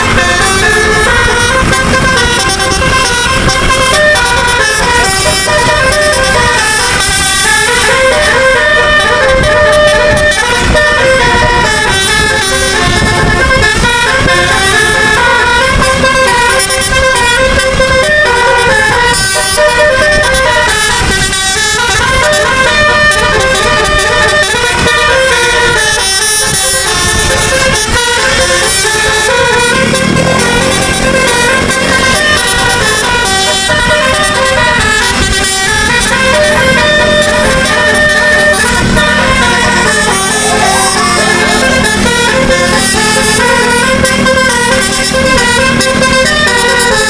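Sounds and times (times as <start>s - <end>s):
musical air horn playing tune: 0.0s - 47.0s.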